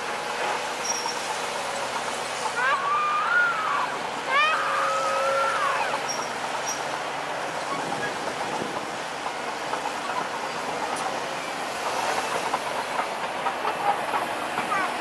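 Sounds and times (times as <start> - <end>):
bulldozer engine: 0.0 - 15.0
steel tracks rattling: 0.0 - 15.0.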